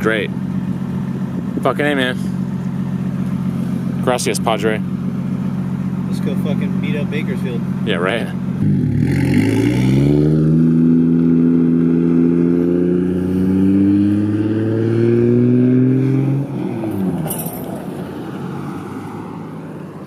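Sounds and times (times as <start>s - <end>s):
car exhaust drone driving away: 0.0s - 20.0s.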